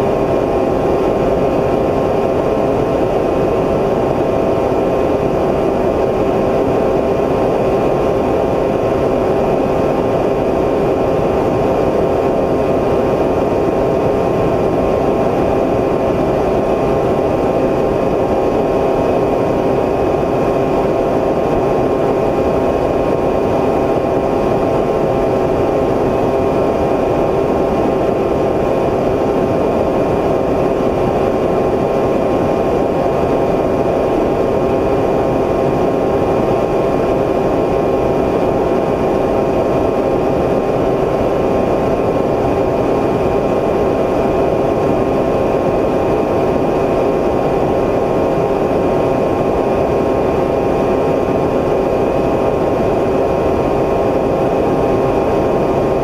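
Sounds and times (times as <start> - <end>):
drone propellers humming: 0.0 - 56.0.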